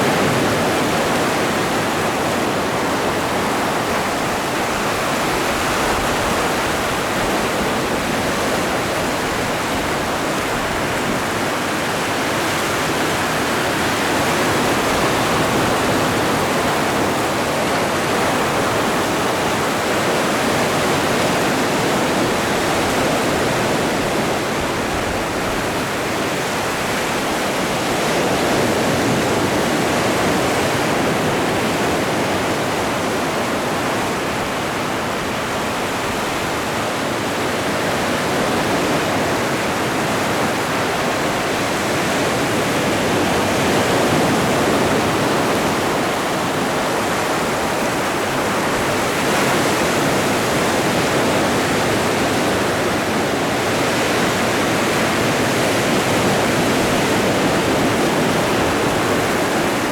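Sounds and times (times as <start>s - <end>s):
ocean waves washing ashore: 0.0s - 59.9s.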